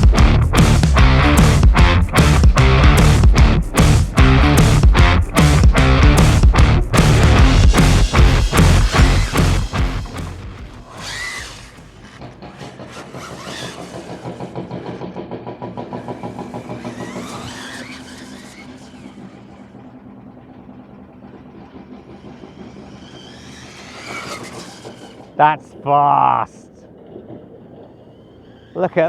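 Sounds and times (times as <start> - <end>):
electric motor whining: 0.0 - 26.8.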